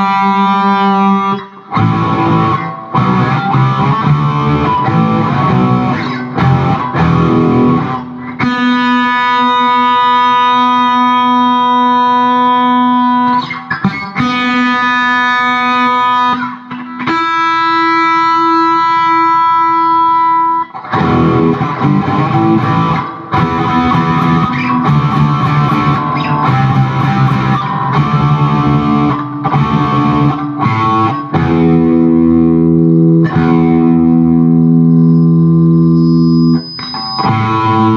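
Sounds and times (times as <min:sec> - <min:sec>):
distorted electric guitar: 0:00.0 - 0:37.9.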